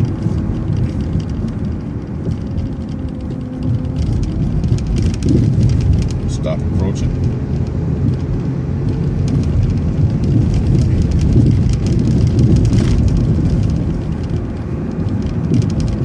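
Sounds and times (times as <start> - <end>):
bus engine and road rumble: 0.0 - 16.0
light rattling clicks: 0.0 - 16.0.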